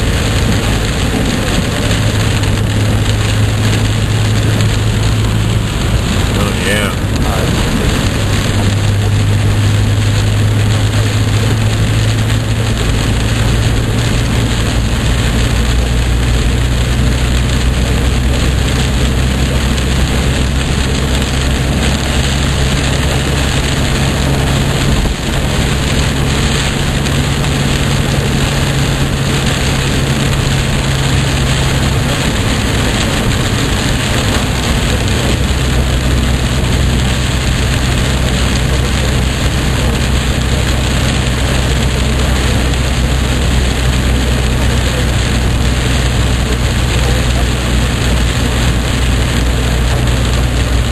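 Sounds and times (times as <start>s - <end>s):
heavy rain hitting a car: 0.0s - 50.9s
low engine hum: 0.0s - 50.9s.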